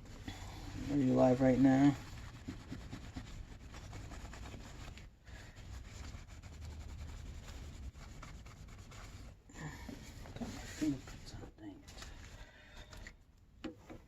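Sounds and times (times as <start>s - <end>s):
hands rubbing computer parts: 0.0s - 11.4s.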